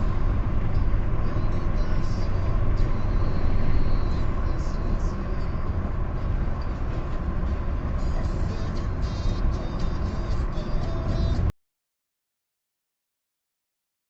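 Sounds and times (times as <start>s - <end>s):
car cabin road rumble: 0.0s - 11.5s.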